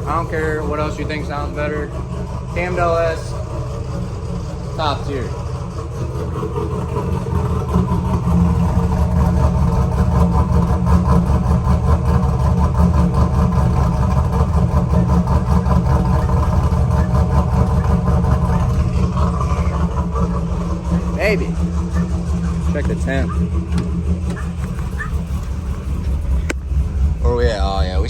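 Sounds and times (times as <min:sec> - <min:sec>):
car engine idling with choppy lope: 0:00.0 - 0:28.0.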